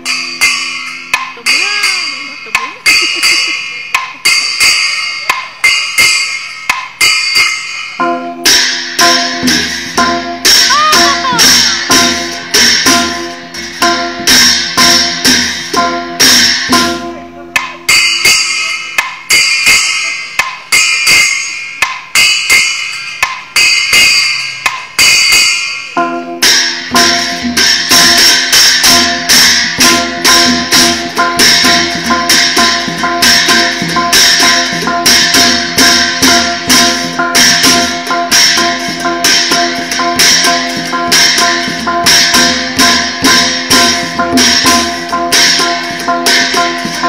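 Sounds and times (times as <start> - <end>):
percussion beat: 0.0 - 47.0.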